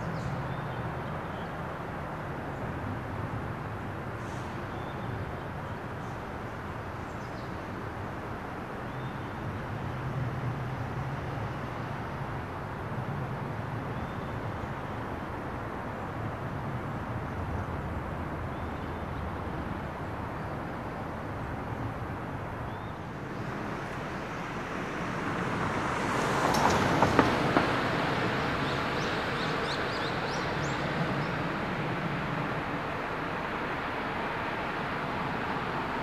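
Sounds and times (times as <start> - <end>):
distant traffic hum: 0.0 - 36.0.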